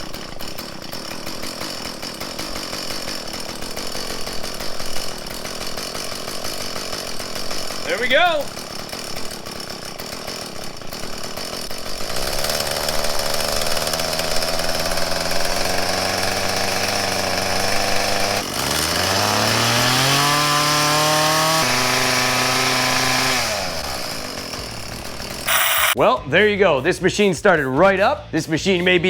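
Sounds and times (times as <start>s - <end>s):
tiller engine running and revving: 0.0s - 26.0s.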